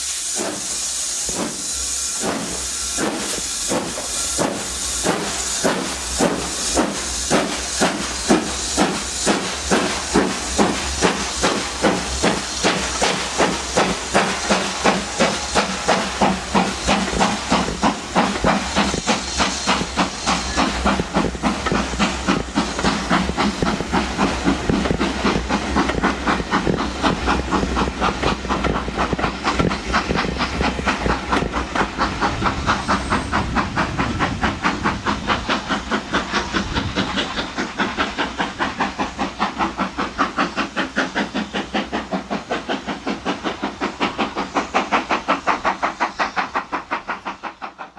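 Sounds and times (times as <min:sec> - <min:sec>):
steam locomotive chuffing: 0:00.0 - 0:47.9.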